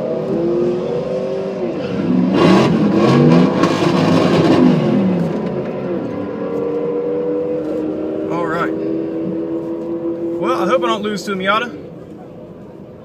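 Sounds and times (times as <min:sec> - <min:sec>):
car engines revving and accelerating: 0:00.0 - 0:13.0.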